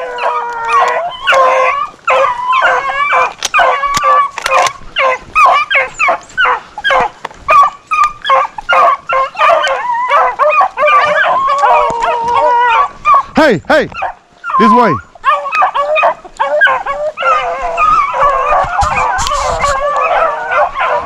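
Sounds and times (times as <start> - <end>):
hounds baying and yelping: 0.0 - 21.0.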